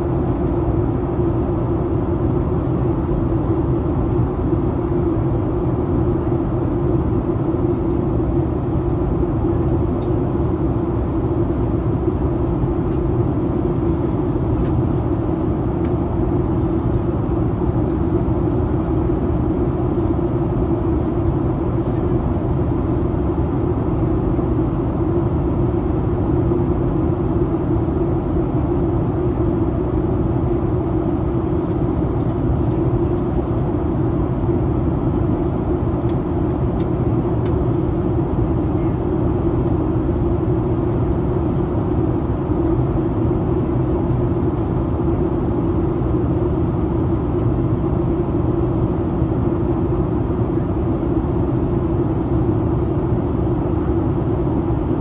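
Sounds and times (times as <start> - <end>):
airliner cabin noise: 0.0 - 55.0.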